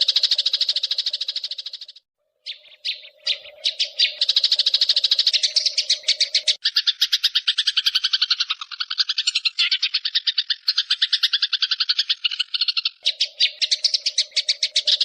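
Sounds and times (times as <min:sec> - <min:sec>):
songbird trill: 0:00.0 - 0:15.0.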